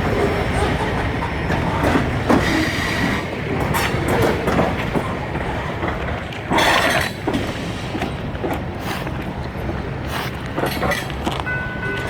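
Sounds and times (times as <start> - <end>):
freight train rumbling past: 0.0 - 12.0
train wheels clacking on rail joints: 0.0 - 12.0.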